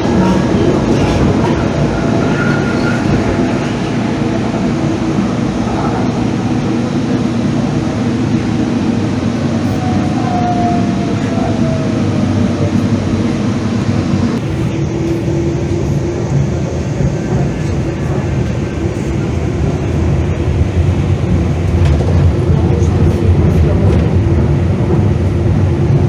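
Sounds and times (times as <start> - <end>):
light-rail car rumbling on track: 0.0 - 26.0.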